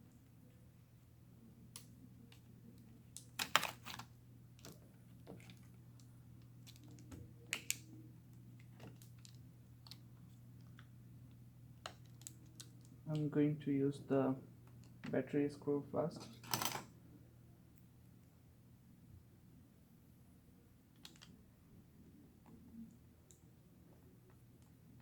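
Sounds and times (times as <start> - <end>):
faint steady low hum: 0.0 - 25.0.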